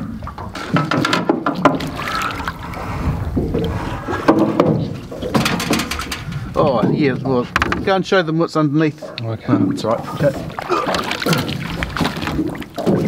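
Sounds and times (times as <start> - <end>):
water splashing: 0.0 - 8.1, 9.0 - 13.0.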